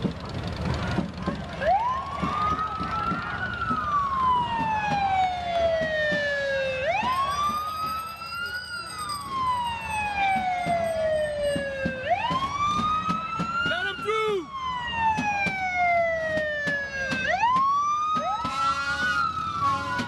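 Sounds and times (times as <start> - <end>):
police siren wailing: 1.4 - 20.0.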